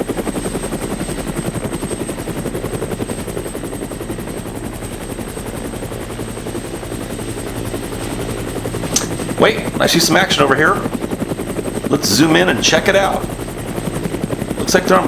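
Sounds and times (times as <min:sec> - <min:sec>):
helicopter rotor chop: 0:00.0 - 0:15.0.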